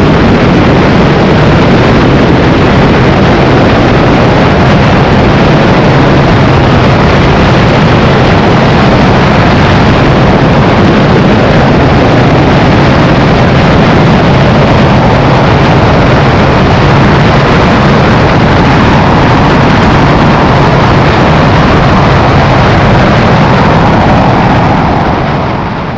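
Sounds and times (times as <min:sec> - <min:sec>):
heavy rush of noise: 0:00.0 - 0:25.9
motorcycle engine at speed: 0:00.0 - 0:25.9.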